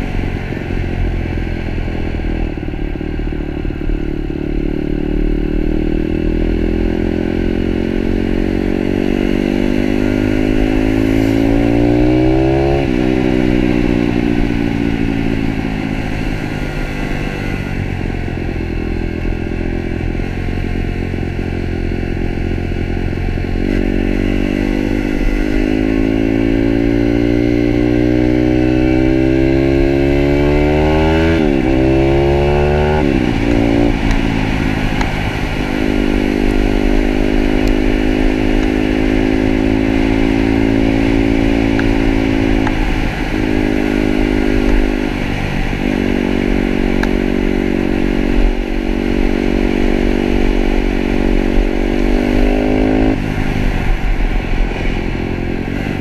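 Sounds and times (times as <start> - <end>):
pit bike engine revving: 4.5 - 18.6, 19.3 - 56.0.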